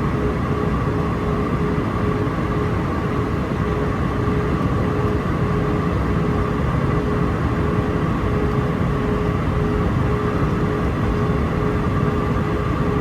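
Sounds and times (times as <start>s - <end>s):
aircraft cabin engine drone: 0.0s - 13.0s.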